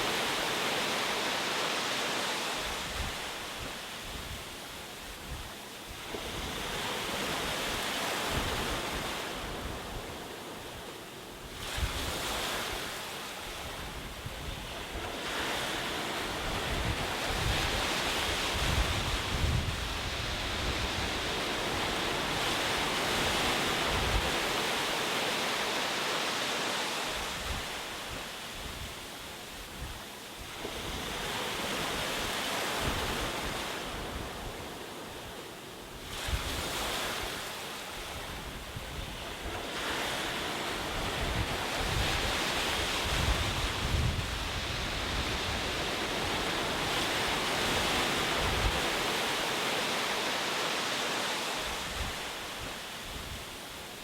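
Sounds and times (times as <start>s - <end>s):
ocean waves breaking ashore: 0.0s - 54.0s.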